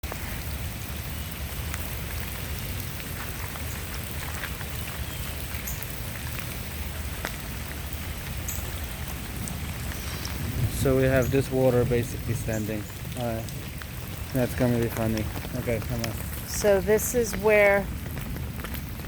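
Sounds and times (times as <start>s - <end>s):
heavy rain hissing: 0.0s - 19.0s
raindrops ticking sharply: 0.0s - 19.0s.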